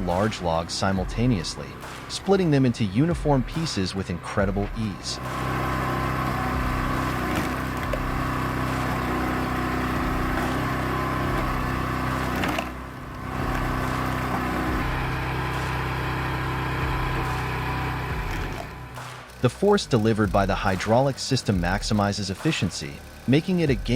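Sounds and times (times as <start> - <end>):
log splitter engine running: 0.0 - 23.9.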